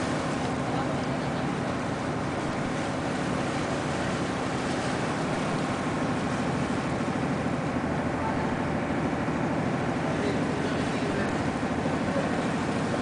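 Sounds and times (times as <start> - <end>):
boat engine droning: 0.0 - 13.0
water hissing along hull: 0.0 - 13.0.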